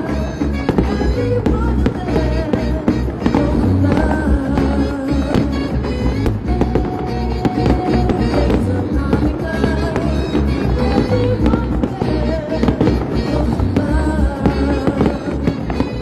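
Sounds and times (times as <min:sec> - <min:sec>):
fireworks bursting with sharp bangs: 0:00.0 - 0:16.0
loud music: 0:00.0 - 0:16.0.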